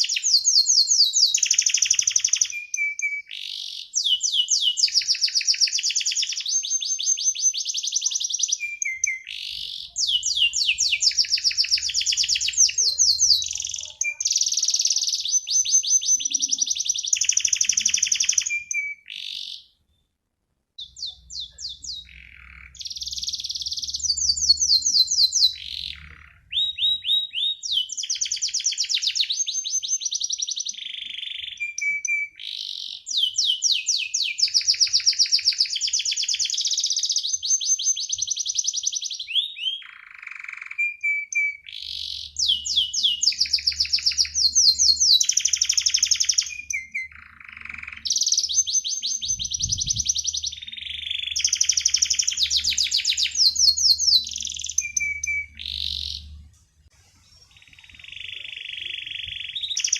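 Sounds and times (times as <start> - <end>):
canary singing trills: 0.0 - 20.1, 20.8 - 56.5, 57.1 - 59.9.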